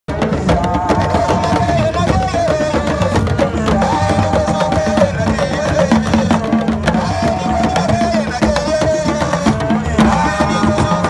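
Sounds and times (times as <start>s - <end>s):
fast drumming: 0.1s - 11.0s.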